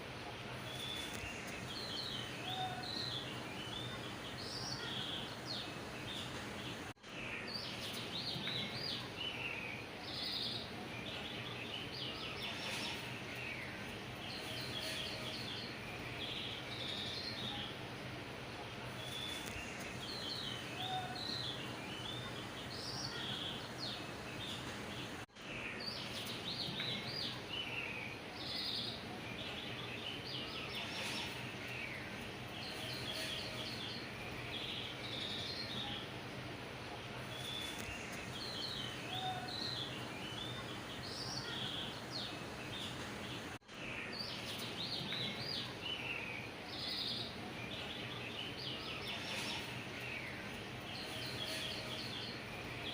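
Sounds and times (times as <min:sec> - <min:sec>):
small birds chirping: 0:00.0 - 0:52.9
steady background hiss: 0:00.0 - 0:52.9.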